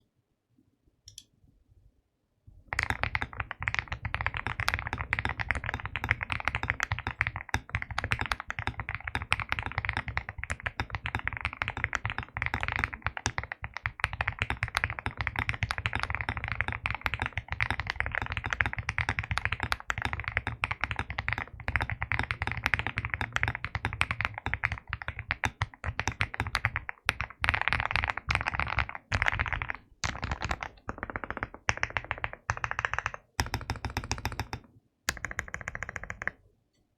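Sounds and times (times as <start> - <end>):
mechanical keyboard typing: 2.7 - 36.4.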